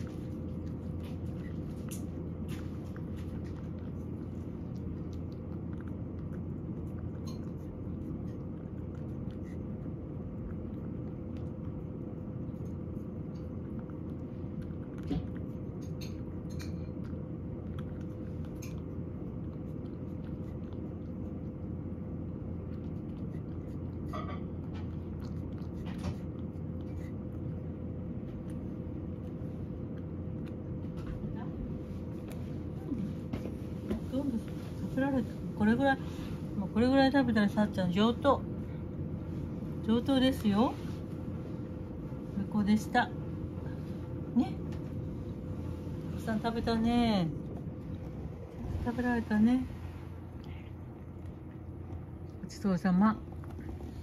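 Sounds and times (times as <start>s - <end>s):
cat chewing and lapping: 0.0s - 54.0s
steady low hum: 0.0s - 54.0s.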